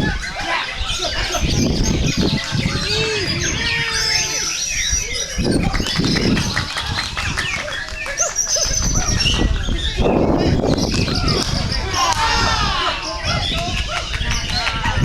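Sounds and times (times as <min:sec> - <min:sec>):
birds singing whistles and chatter: 0:00.0 - 0:15.0.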